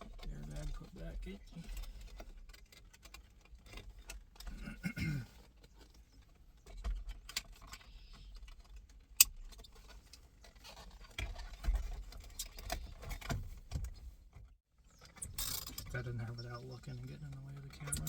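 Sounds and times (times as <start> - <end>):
clicks and rattles of steering wheel: 0.0 - 18.0.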